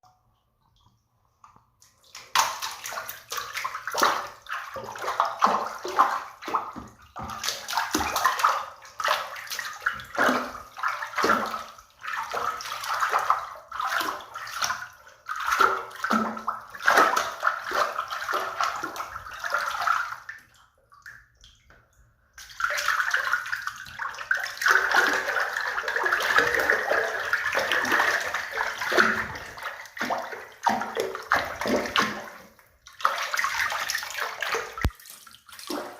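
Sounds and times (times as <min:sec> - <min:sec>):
water sloshing in a bathtub: 0:00.0 - 0:35.9.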